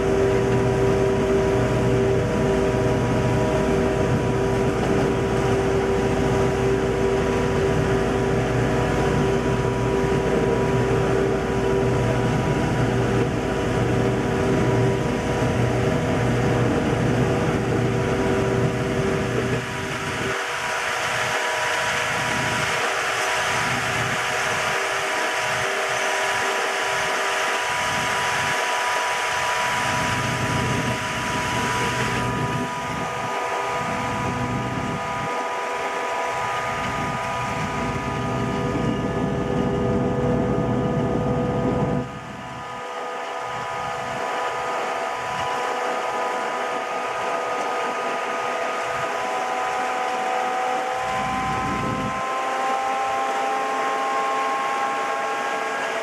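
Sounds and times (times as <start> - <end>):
locomotive engine whine: 0.0 - 56.0
wheels rumbling on track: 0.0 - 56.0.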